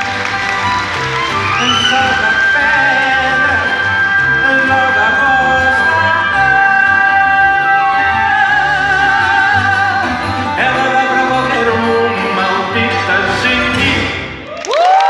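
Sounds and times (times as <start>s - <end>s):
clarinet: 0.0s - 13.7s
acoustic guitars: 0.0s - 14.5s
man singing: 1.5s - 14.3s.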